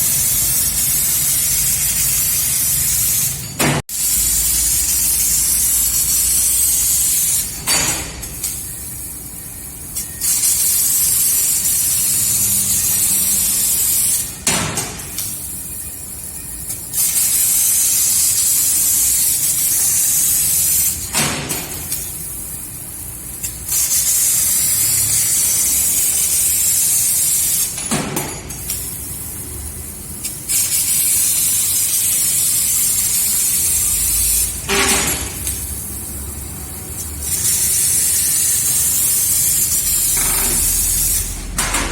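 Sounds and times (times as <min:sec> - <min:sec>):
laser cutter gas hiss: 0:00.0 - 0:41.6.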